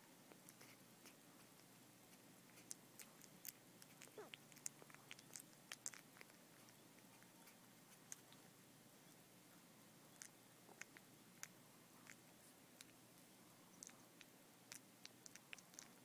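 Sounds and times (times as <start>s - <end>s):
puppies suckling wet clicks: 0.3s - 8.4s, 10.1s - 13.0s, 13.7s - 16.0s.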